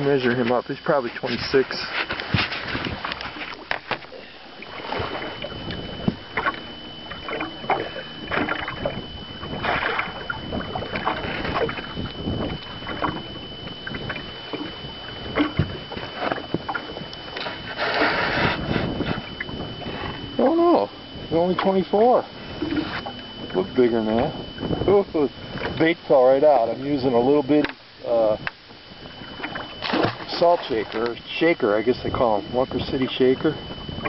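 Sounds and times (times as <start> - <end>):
water slapping boat hull: 0.0 - 34.0
wind on microphone: 0.9 - 27.0, 31.8 - 34.0.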